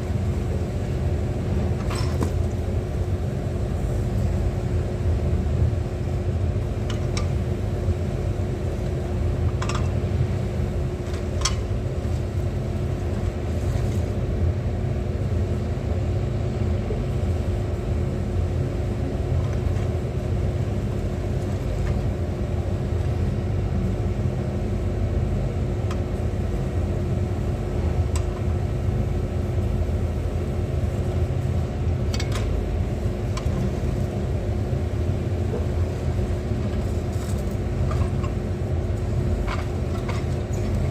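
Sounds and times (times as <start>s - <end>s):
engine rumbling steadily: 0.0s - 40.9s.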